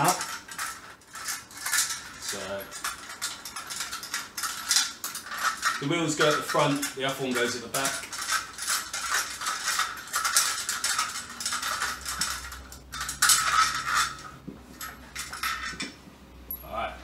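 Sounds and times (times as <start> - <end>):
metal parts clinking and rattling: 0.0 - 16.9.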